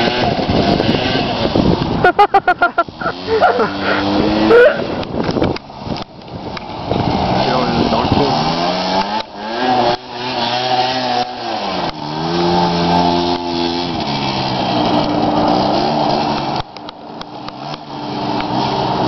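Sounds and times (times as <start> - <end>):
scooter engine revving hard: 0.0 - 19.0.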